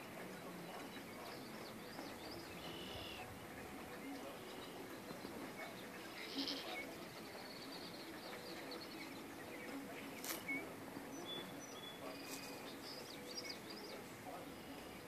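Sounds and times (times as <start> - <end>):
birds chirping and whistling: 0.7 - 3.3, 3.9 - 15.0.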